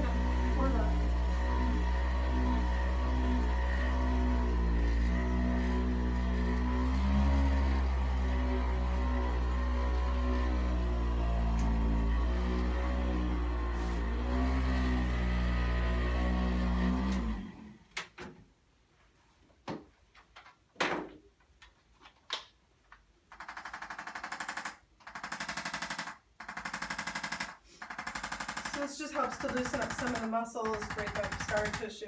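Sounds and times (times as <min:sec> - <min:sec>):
percussion massager pulsing: 0:00.0 - 0:17.9, 0:23.3 - 0:32.0.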